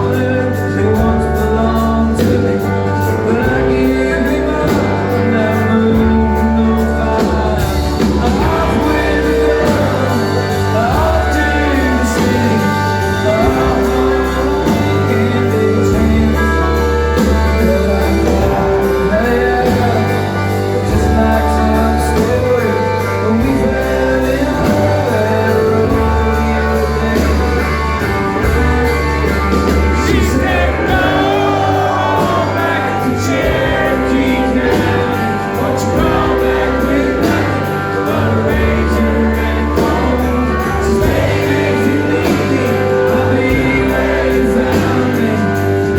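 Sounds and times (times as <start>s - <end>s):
bass line: 0.0s - 45.9s
guitars: 0.0s - 45.9s
man singing: 0.0s - 45.9s.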